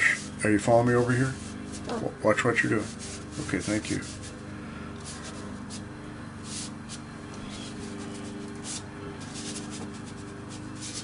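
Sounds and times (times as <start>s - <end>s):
brush scrubbing paper: 0.0s - 4.4s, 5.0s - 11.0s.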